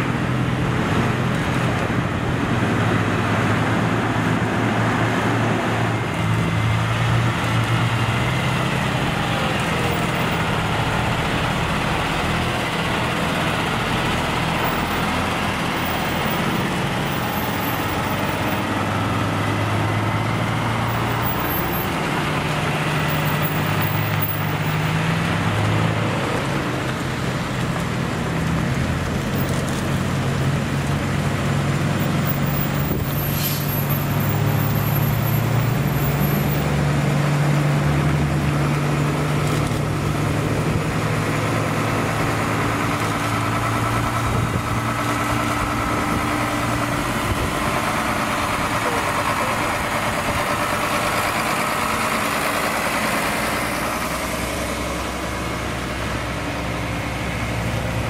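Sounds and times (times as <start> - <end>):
diesel truck engines: 0.0 - 58.0
tyre and road noise: 0.0 - 58.0.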